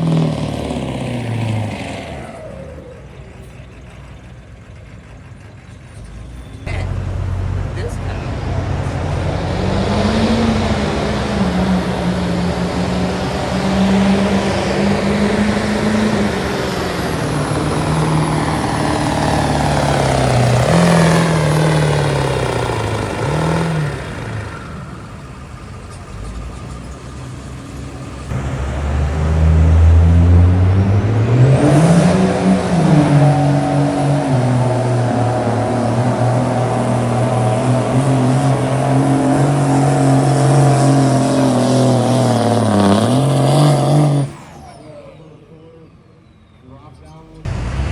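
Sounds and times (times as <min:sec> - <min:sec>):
diesel truck engine revving: 0:00.0 - 0:47.9.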